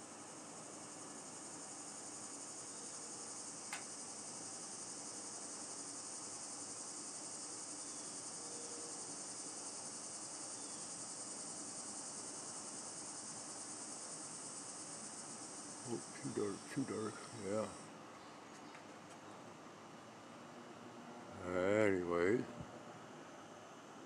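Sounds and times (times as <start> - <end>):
insects trilling: 0.0 - 20.4, 21.3 - 22.5.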